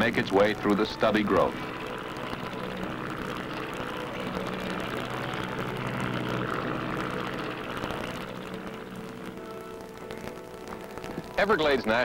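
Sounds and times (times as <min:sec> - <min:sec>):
airboat engine and propeller drone: 0:00.0 - 0:11.5.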